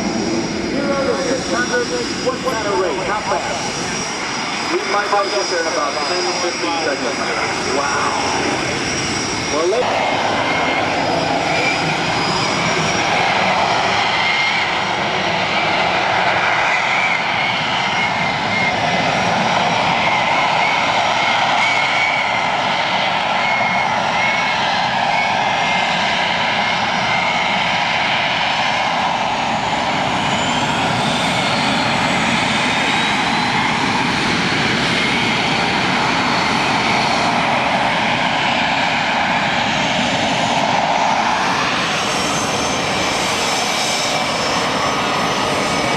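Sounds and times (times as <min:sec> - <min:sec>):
jet engine roaring with whine: 0:00.0 - 0:45.9.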